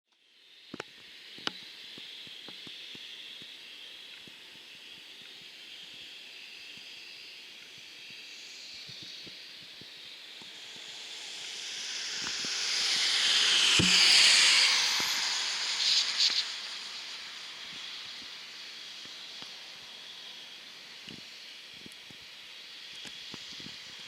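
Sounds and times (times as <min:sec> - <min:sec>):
distant jet aircraft engines: 0:01.8 - 0:24.0.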